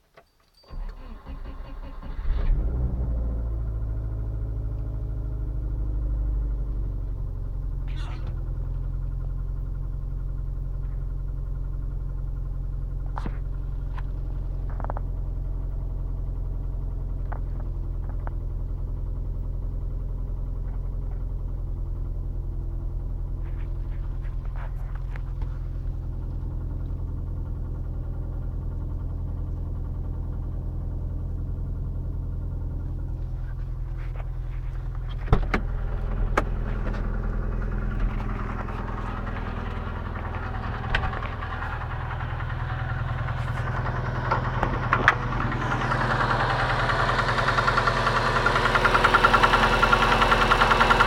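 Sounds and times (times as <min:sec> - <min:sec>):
engine idling with rhythmic knock: 0:03.7 - 0:51.0.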